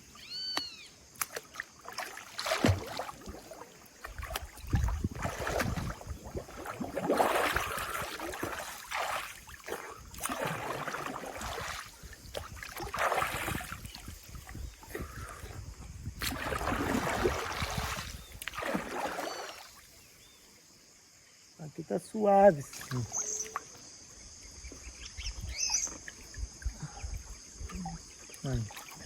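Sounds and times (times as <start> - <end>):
water sloshing and splashing: 0.0 - 20.2, 22.5 - 29.0.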